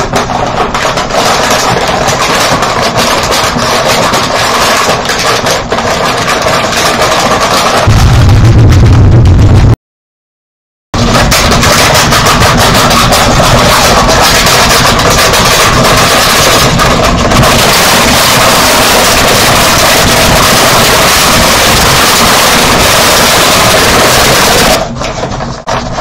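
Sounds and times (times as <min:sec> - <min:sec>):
harsh distorted noise: 0:00.0 - 0:09.8, 0:11.0 - 0:26.0.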